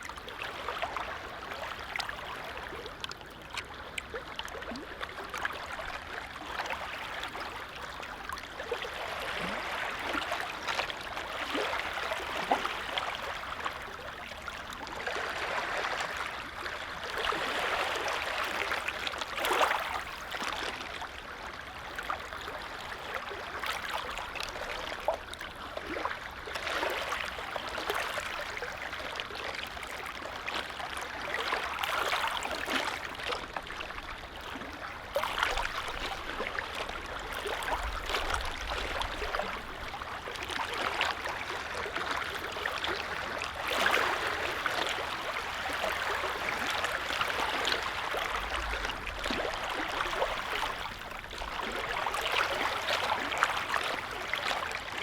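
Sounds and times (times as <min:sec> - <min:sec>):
lake waves lapping: 0:00.0 - 0:55.0.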